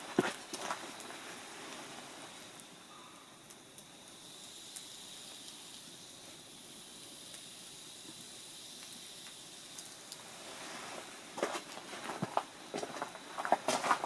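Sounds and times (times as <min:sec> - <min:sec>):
small crackles of fire: 0:00.0 - 0:14.0
wood smouldering hiss: 0:00.0 - 0:14.0.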